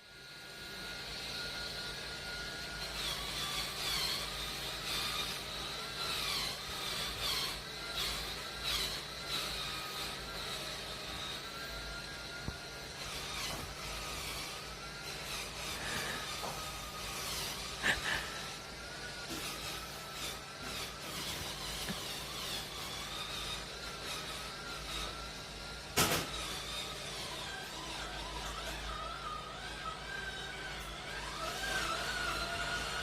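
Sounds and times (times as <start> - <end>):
cleaning machine motor whining: 0.0 - 33.0.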